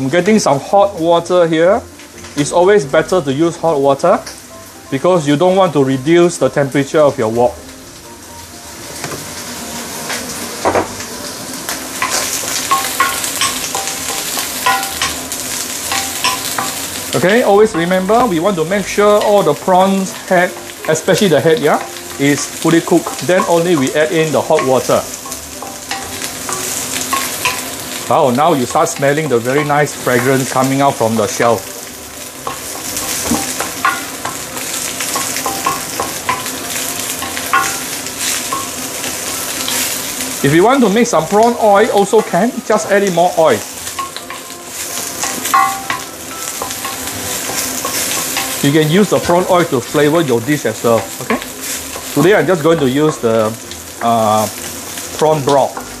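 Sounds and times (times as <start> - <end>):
prawn shells sizzling in oil: 0.0 - 56.0.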